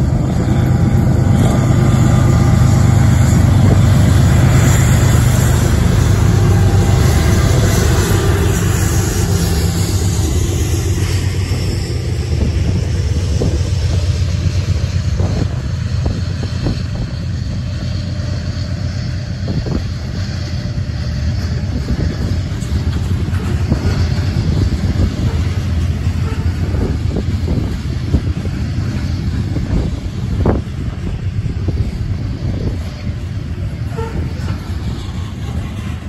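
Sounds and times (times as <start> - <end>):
train cars rumbling past: 0.0 - 36.0.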